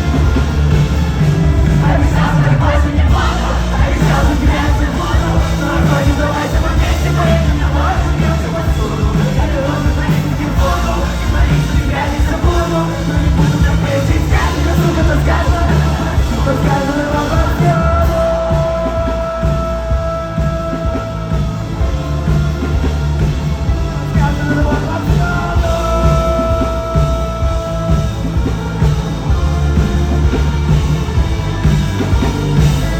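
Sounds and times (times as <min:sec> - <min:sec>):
live rock music with singing: 0:00.0 - 0:32.9.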